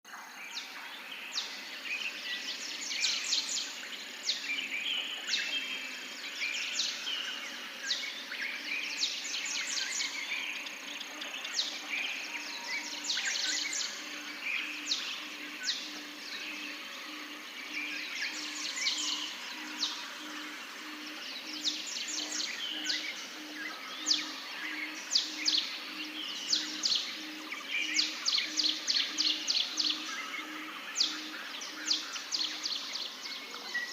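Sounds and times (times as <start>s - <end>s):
small birds chirping: 0.6s - 33.9s.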